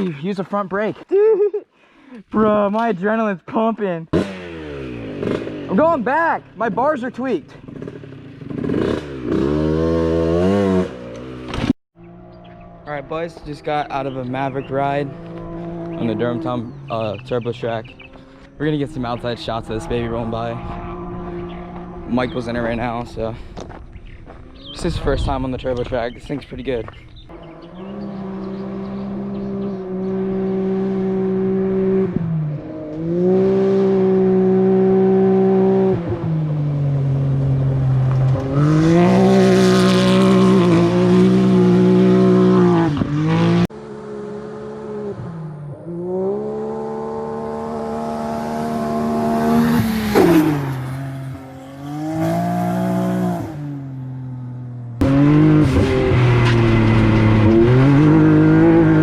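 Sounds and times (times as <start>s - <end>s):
engine revving: 4.1s - 23.3s, 27.2s - 59.0s.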